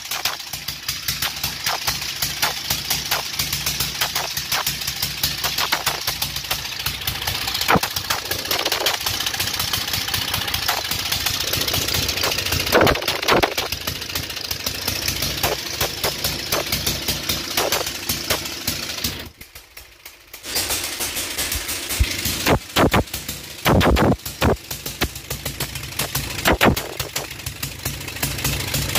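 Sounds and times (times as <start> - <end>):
engine pops: 0.0 - 28.9
minibike engine running: 0.0 - 28.9.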